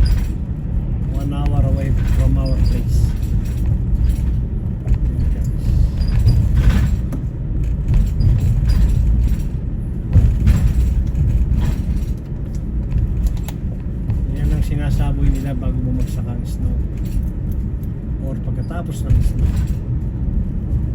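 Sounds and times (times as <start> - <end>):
vehicle engine and road noise: 0.0 - 20.9.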